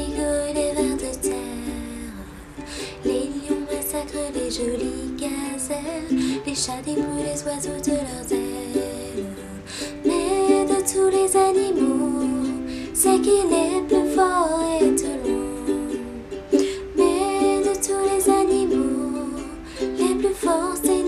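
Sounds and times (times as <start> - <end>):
ukulele strumming: 0.0 - 21.0
woman singing: 0.0 - 21.0.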